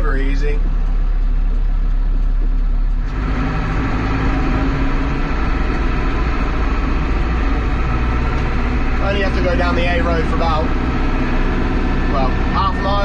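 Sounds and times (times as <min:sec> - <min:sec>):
loader diesel engine revving: 0:00.0 - 0:13.0.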